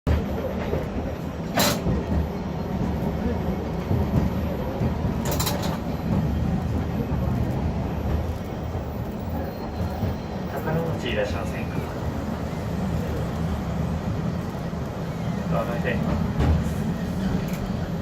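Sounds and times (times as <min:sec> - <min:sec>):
tram rumbling on rails: 0:00.1 - 0:18.0.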